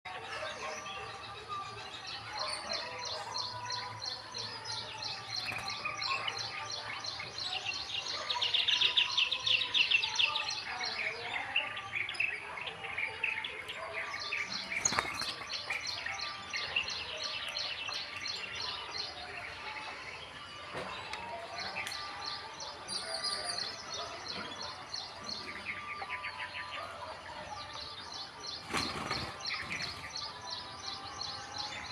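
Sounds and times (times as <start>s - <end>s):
sparrows chirping: 0.1s - 31.9s.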